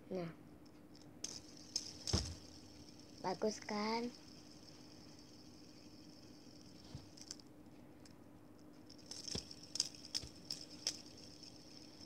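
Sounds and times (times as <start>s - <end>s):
fidget spinner plastic clicks: 0.9s - 12.0s.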